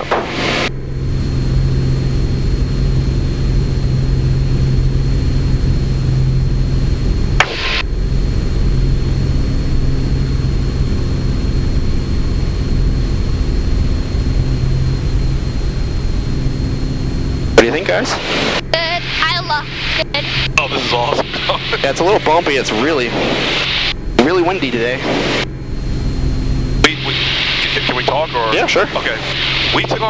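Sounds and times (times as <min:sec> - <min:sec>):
propeller plane engine drone: 0:00.0 - 0:30.0.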